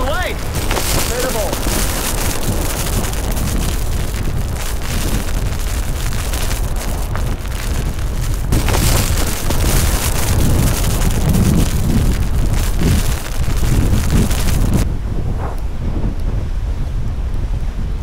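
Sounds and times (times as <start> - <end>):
hiss of wind-driven rain and spray: 0.0 - 18.0
wind buffeting microphone: 0.0 - 18.0.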